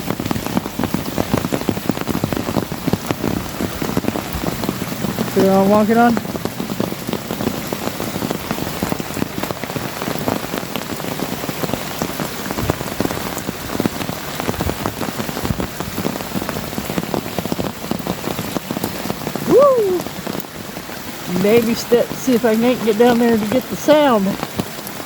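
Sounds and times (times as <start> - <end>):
heavy rain on an umbrella: 0.0 - 25.0.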